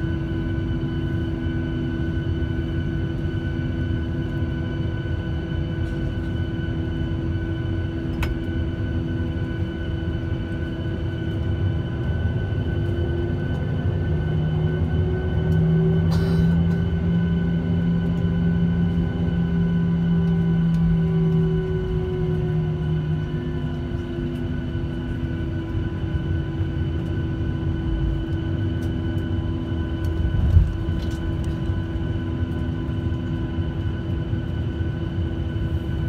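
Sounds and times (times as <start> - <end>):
aircraft engines rumbling near idle: 0.0 - 36.0
steady humming tones: 0.0 - 36.0.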